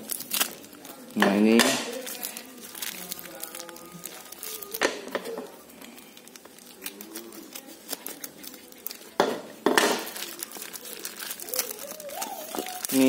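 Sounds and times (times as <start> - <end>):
plastic mailer crinkling: 0.0 - 9.2, 10.0 - 13.0
plastic ripping: 0.0 - 9.2, 9.8 - 13.0
scissors cutting plastic: 0.0 - 9.2, 9.8 - 13.0.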